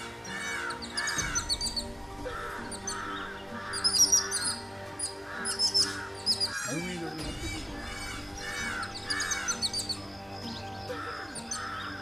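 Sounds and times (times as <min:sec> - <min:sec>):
crows cawing: 0:00.0 - 0:12.0
music with sustained low notes: 0:00.0 - 0:12.0
small birds chirping: 0:00.0 - 0:12.0.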